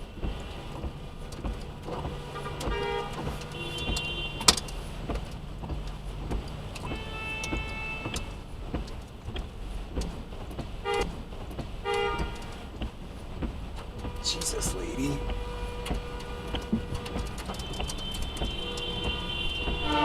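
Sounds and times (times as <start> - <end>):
car low hum: 0.0 - 20.0
hail and rain hitting a car: 0.0 - 20.0.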